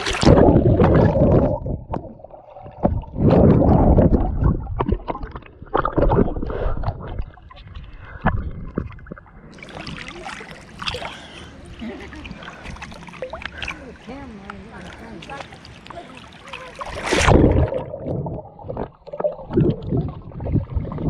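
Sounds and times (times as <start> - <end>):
water sloshing and gurgling: 0.0 - 21.0.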